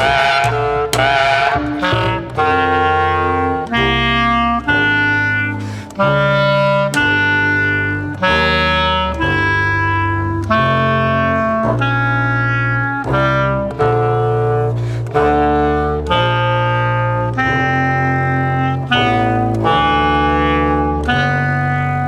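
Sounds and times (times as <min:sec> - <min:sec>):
clarinet held notes: 0:00.0 - 0:22.0
double bass held notes: 0:00.0 - 0:22.0.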